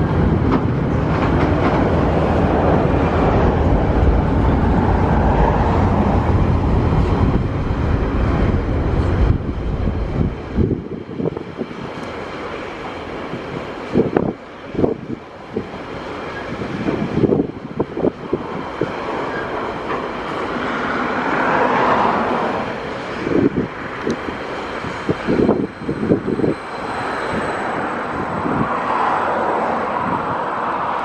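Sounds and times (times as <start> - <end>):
freight train rolling on rails: 0.0 - 31.0.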